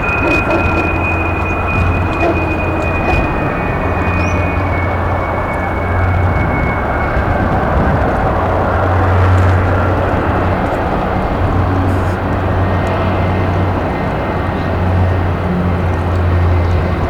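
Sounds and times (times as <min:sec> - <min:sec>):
jet airliner engine with high whine: 0:00.0 - 0:17.0.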